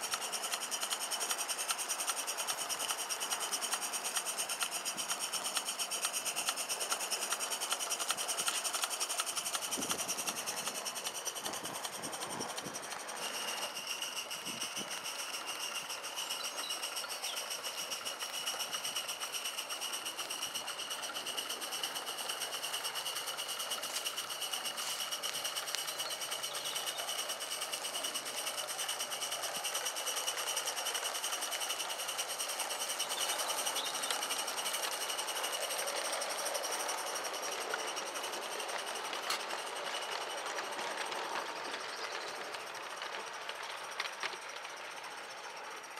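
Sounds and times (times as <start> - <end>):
model steam locomotive beat: 0.0 - 45.9
steam hissing: 0.0 - 45.9.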